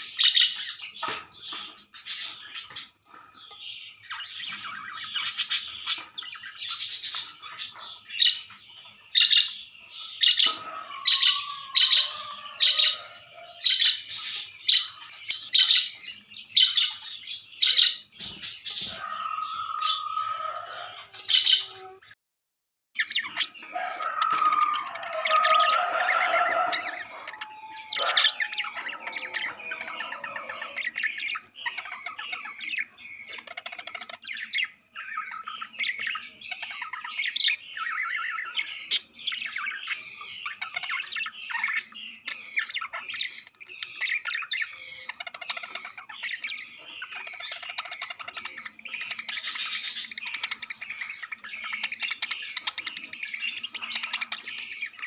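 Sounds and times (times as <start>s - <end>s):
budgerigars chirping and squawking: 0.0s - 22.2s, 23.0s - 55.0s.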